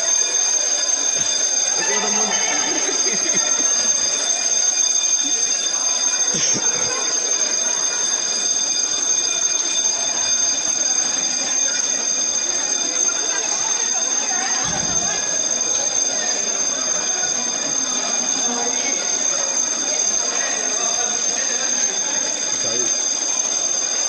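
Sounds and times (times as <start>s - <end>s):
electric alarm bell ringing: 0.0s - 24.0s.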